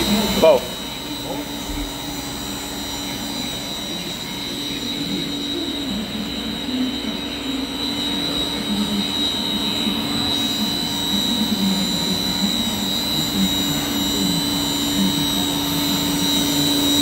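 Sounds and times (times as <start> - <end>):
high-pitched machine whine: 0.0 - 17.0
meat grinder motor humming: 0.0 - 17.0.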